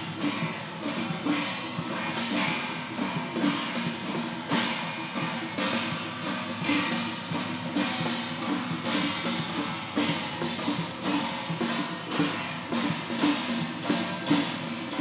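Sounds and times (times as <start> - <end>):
cymbal crash: 0.0 - 15.0
drums and cymbals: 0.0 - 15.0.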